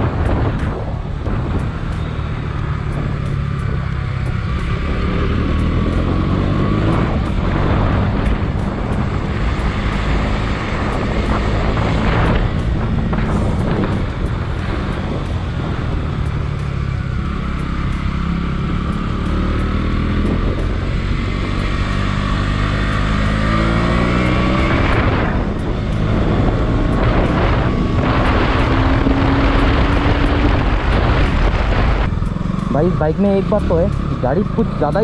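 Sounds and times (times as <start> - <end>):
wind rushing: 0.0 - 33.3
motorcycle engine accelerating: 0.0 - 35.0.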